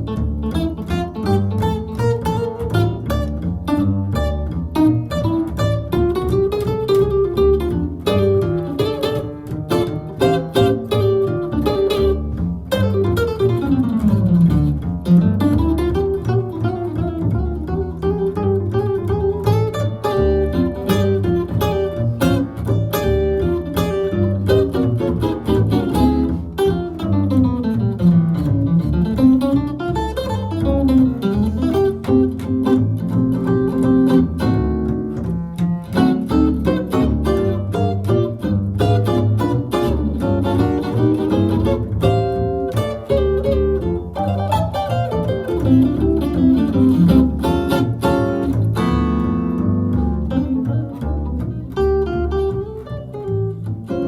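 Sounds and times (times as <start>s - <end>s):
jazz guitar playing: 0.0s - 54.0s
walking bass: 0.0s - 54.0s.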